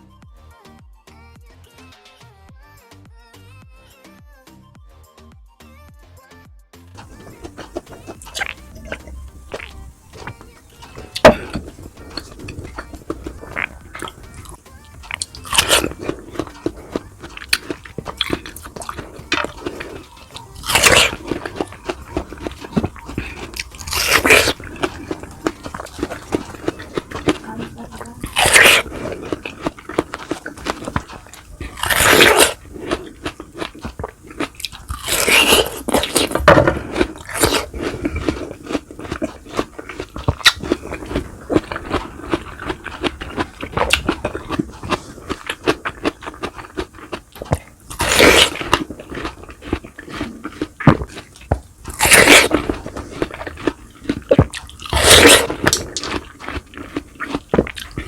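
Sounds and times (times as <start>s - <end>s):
wet chewing clicks: 7.0s - 58.0s
loud crunches: 7.1s - 58.0s.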